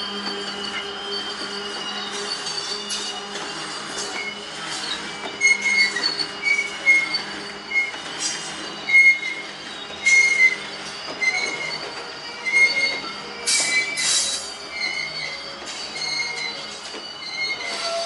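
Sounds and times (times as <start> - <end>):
train rolling noise: 0.0 - 18.0
train wheels squealing on rails: 0.0 - 18.0.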